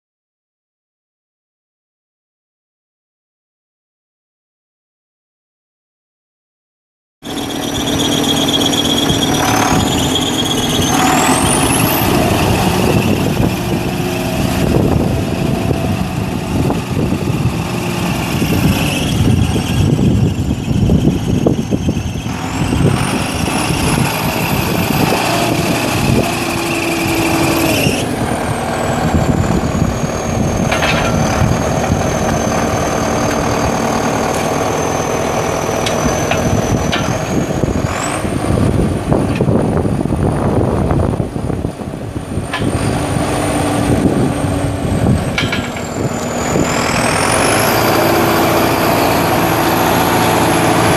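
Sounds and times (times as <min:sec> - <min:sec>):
tractor diesel engine running: 0:07.2 - 0:50.9.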